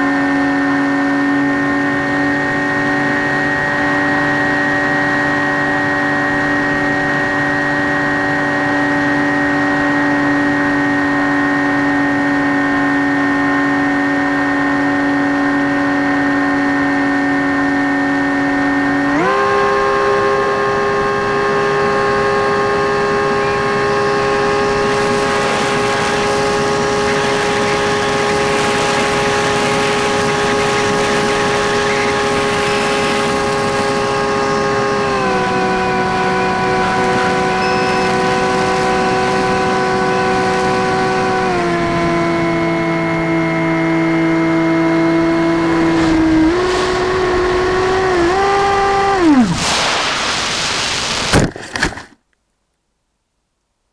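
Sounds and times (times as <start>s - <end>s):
electric motor and propeller droning: 0.0s - 49.6s.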